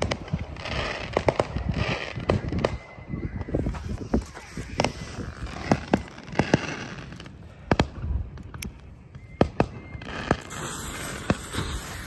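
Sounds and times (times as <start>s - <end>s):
fireworks cracking and banging: 0.0s - 2.9s, 4.1s - 8.8s, 9.4s - 12.0s.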